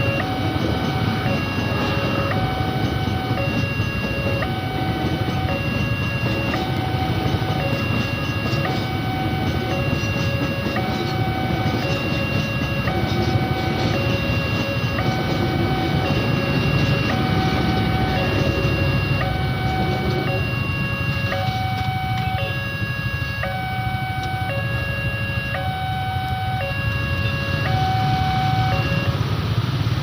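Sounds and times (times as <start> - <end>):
steady low rumble: 0.0 - 29.1
two-tone electronic alarm: 0.0 - 29.2.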